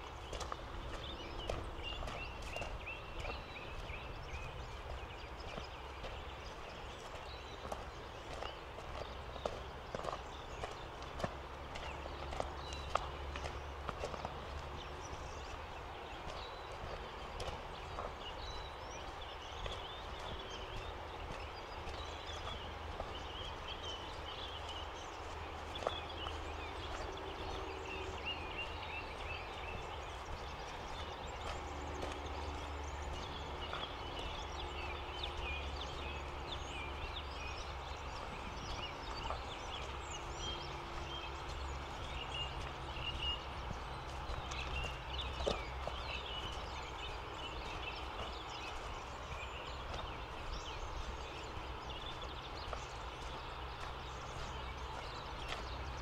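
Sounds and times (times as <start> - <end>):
birds chirping and twittering: 0.0 - 56.0
steady low rumble: 0.0 - 56.0.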